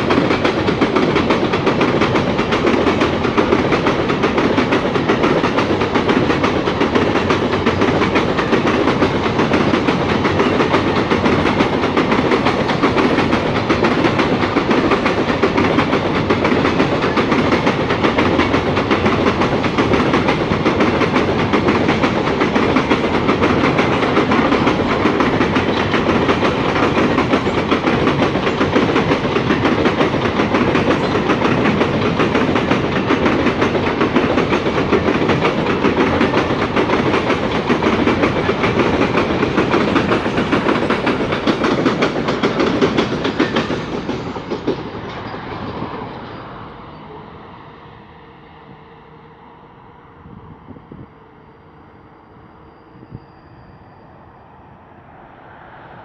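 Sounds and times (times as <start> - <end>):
train wheels rolling on rail: 0.0 - 56.0.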